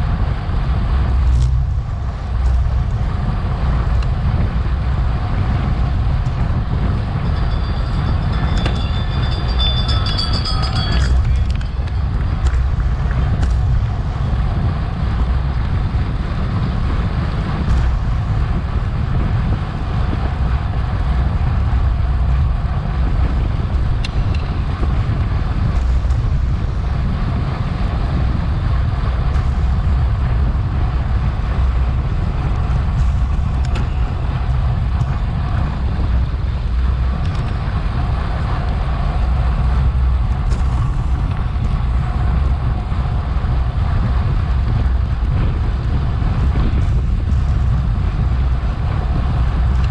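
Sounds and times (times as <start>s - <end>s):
wind rushing on microphone: 0.0s - 49.9s.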